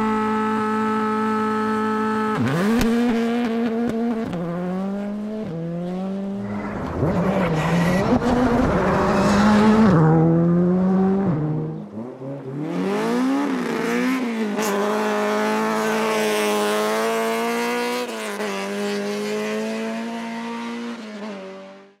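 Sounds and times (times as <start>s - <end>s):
rally car engines at full throttle: 0.0s - 22.0s.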